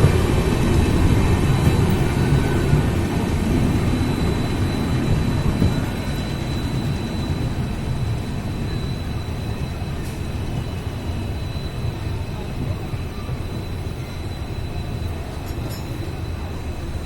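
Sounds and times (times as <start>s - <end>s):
passenger train rumbling: 0.0s - 17.0s
thin high whine: 0.0s - 17.0s.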